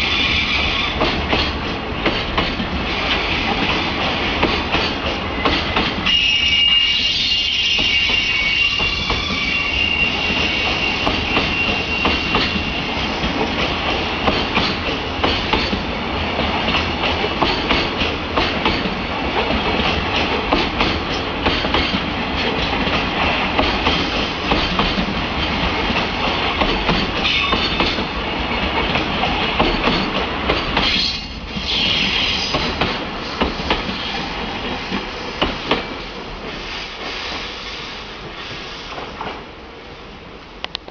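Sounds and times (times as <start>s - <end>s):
freight train wheels clattering: 0.0s - 6.3s, 7.0s - 37.5s.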